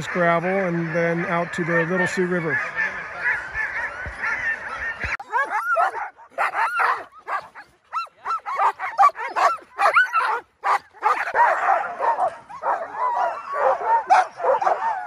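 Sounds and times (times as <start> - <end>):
outdoor background noise: 0.0 - 15.0
sled dogs yipping and barking: 0.0 - 15.0.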